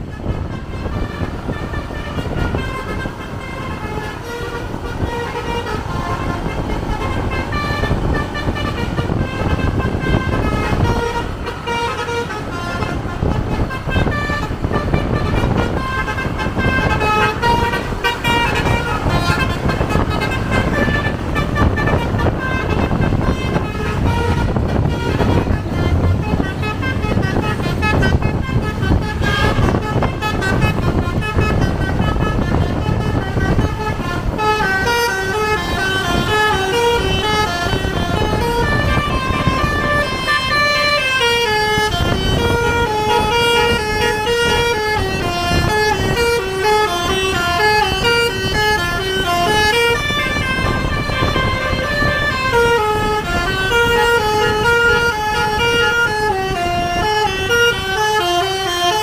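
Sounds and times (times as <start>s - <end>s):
bus engine and road rumble: 0.0s - 59.0s
bus horn playing melody: 0.0s - 59.0s.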